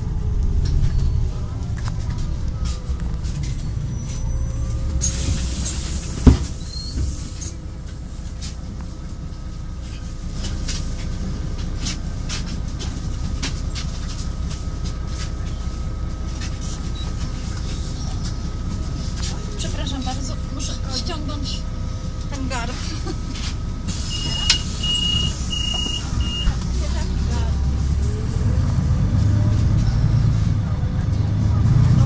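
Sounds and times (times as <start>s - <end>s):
bus engine rumble: 0.0s - 32.0s.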